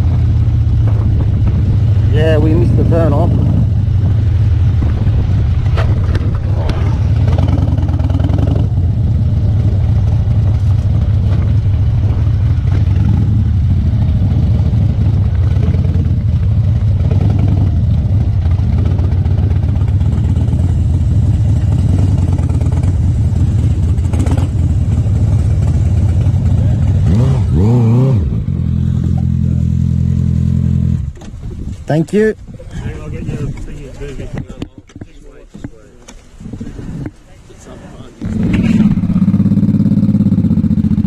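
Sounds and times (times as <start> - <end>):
motorcycle engine rumbling: 0.0 - 41.0.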